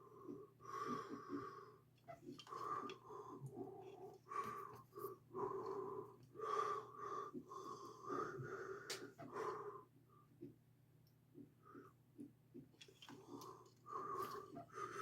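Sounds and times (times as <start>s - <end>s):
person breathing with wheeze: 0.0s - 10.2s, 13.0s - 15.0s.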